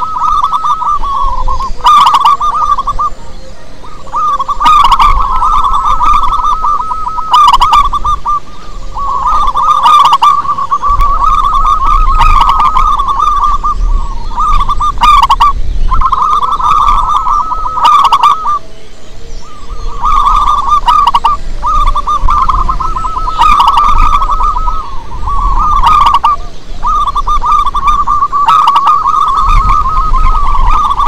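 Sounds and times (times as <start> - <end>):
dove cooing in trilled phrases: 0.0 - 31.0.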